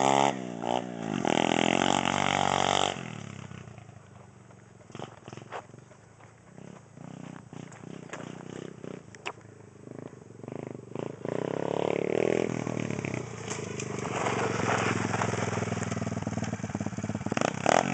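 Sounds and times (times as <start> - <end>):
pit bike engine revving: 0.0 - 17.9.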